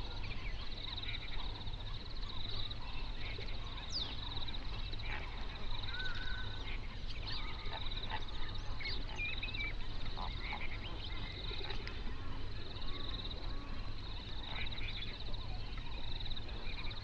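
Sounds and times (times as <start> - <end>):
flamingos gabbling and honking: 0.0 - 17.0
small birds chirping: 0.0 - 17.0.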